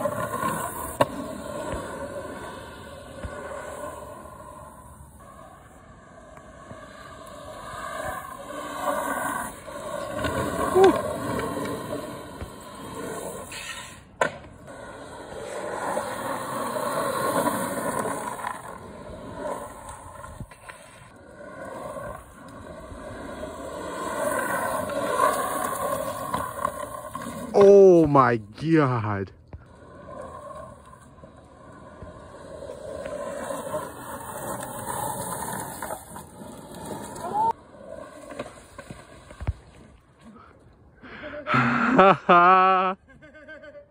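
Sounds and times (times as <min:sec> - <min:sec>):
skateboard wheels scraping asphalt: 0:00.0 - 0:43.9.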